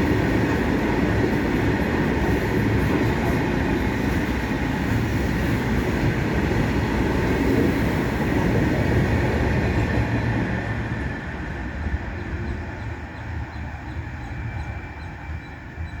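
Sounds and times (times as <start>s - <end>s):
freight train passing: 0.0s - 16.0s.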